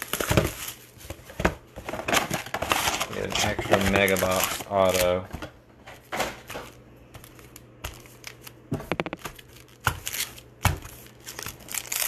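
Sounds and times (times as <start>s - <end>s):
foil packs rustling and crinkling: 0.0s - 12.0s.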